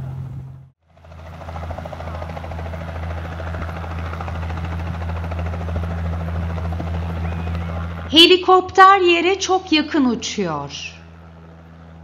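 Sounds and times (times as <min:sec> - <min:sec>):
helicopter rotor chopping: 0:00.0 - 0:12.0
low engine hum: 0:00.0 - 0:12.0.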